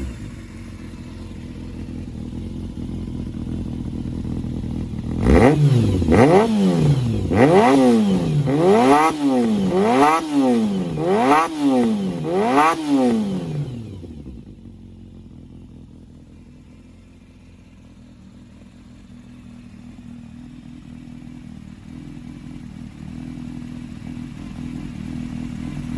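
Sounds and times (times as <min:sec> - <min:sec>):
motorcycle engine revving and idling: 0:00.0 - 0:25.9.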